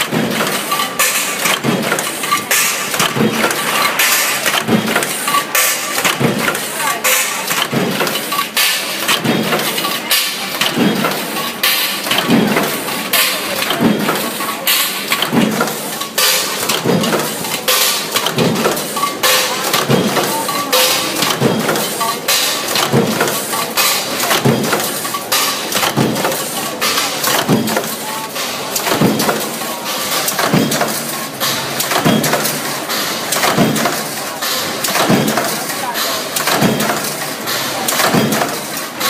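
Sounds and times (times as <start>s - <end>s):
factory machine noise: 0.0s - 39.0s
stamping press metallic clanks: 0.0s - 39.0s.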